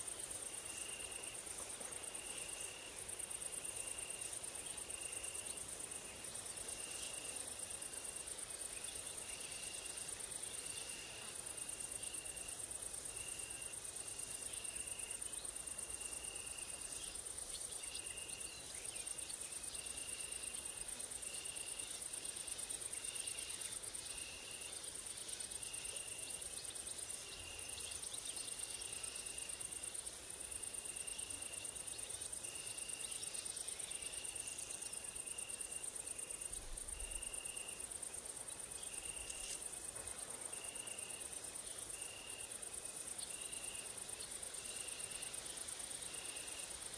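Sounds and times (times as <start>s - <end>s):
pulsing cricket chirping: 0.1s - 46.9s.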